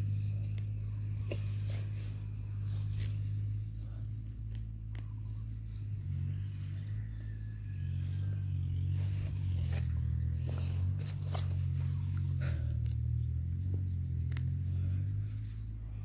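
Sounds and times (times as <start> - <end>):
footsteps crunching on dry straw: 0.0 - 16.0
low hum: 0.0 - 16.0.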